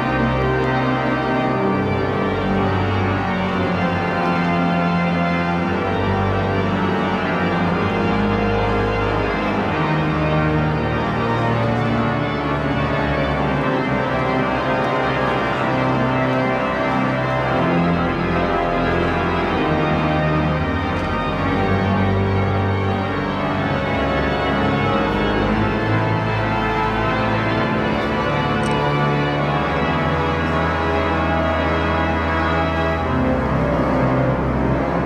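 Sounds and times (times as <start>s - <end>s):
slow organ-like chords: 0.0s - 35.0s.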